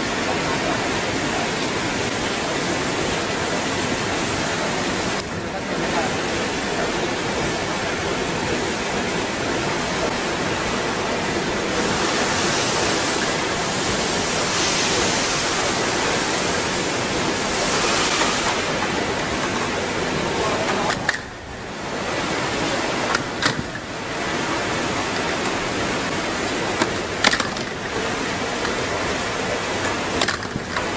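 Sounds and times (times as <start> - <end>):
machinery rushing noise: 0.0 - 30.9.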